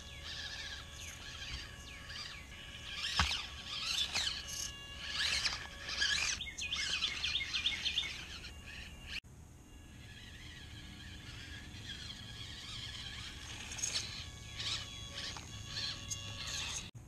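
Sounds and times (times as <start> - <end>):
wild birds chirping and singing: 0.0 - 16.9.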